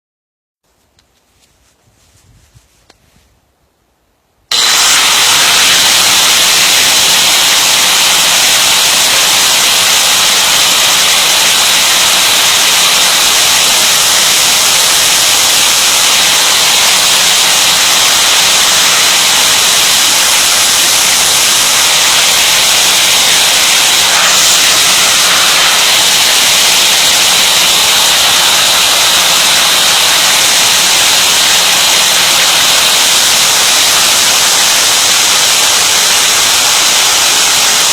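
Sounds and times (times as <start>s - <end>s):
electric grinder grinding: 4.5s - 37.9s.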